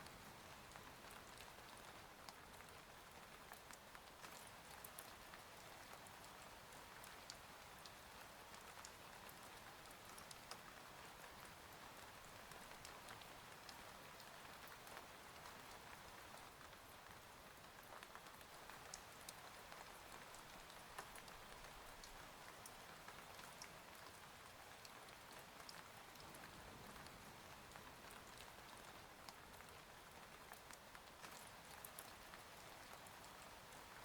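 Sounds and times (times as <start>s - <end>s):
faint steady rain: 0.0s - 34.0s
raindrop ticks: 3.5s - 34.0s.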